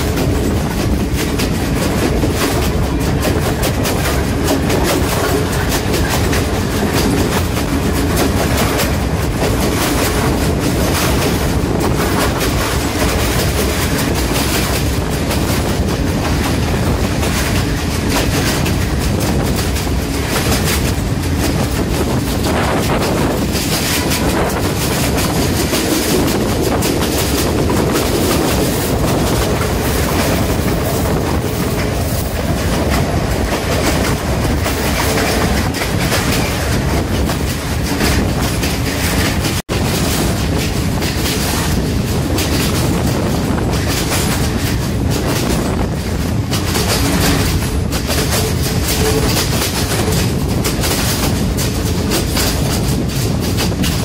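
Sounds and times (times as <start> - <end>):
train rumbling: 0.0 - 54.0
wheels clattering on rails: 0.0 - 54.0.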